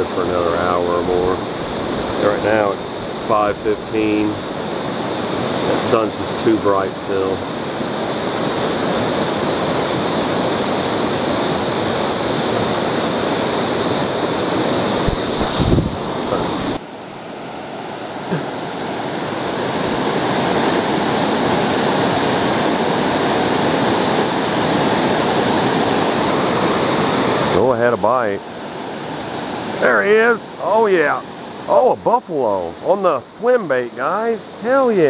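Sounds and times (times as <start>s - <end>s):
river water rushing over rocks: 0.0s - 35.0s.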